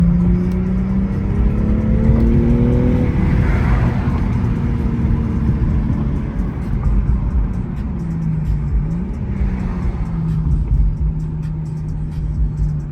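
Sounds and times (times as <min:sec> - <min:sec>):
car engine accelerating: 0:00.0 - 0:12.9.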